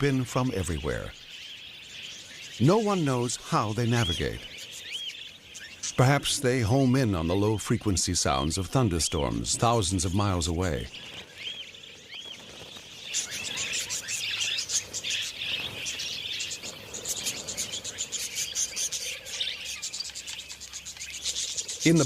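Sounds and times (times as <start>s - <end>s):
budgerigars chattering: 0.0s - 22.0s.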